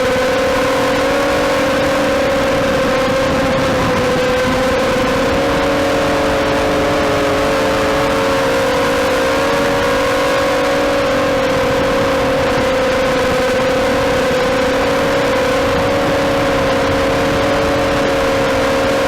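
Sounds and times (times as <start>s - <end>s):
quadcopter motors whining: 0.0s - 18.9s.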